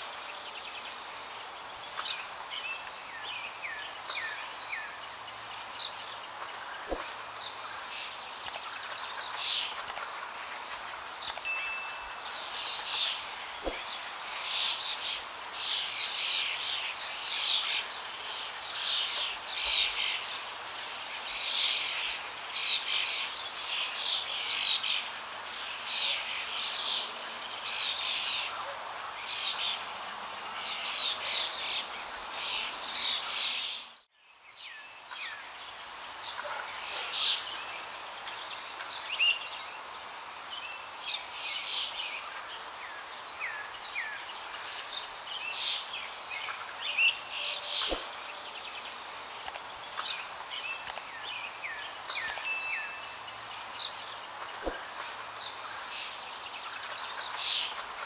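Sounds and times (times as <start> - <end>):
small birds chirping and singing: 0.0 - 58.0
steady background hiss: 0.0 - 58.0.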